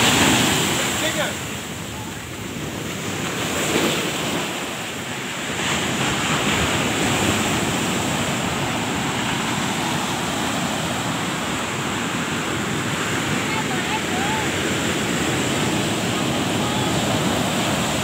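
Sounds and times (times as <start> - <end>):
waves breaking against rocks: 0.0 - 18.0.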